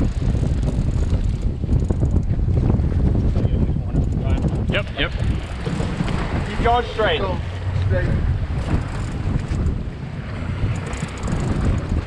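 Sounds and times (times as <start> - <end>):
outboard engines rumbling: 0.0 - 12.0
water washing at stern: 0.0 - 12.0
wind buffeting microphone: 0.0 - 12.0.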